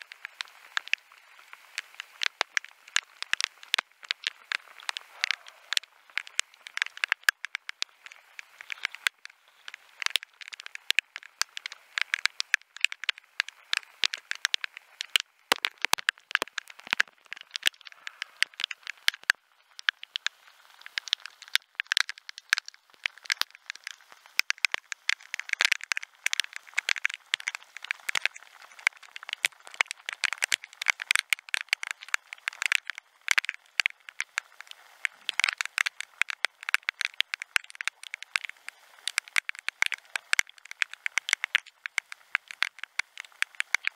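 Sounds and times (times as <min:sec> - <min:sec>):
raindrops ticking: 0:00.0 - 0:43.9.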